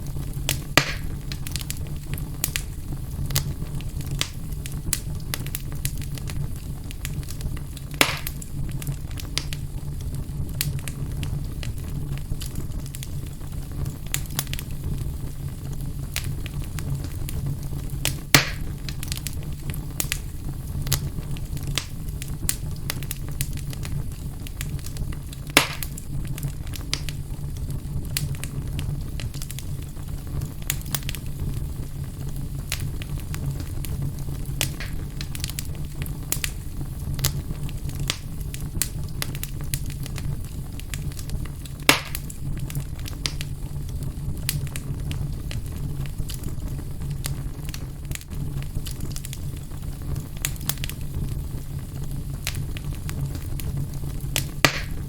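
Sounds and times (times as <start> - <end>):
fire popping: 0.0 - 55.0
low fire rumble: 0.0 - 55.0
wood fire crackling: 0.0 - 55.0.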